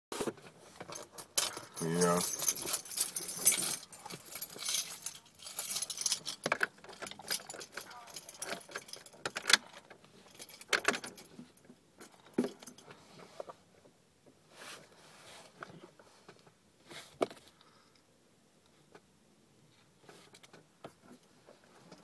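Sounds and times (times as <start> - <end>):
soft rustle: 0.2 - 17.9, 19.6 - 22.0.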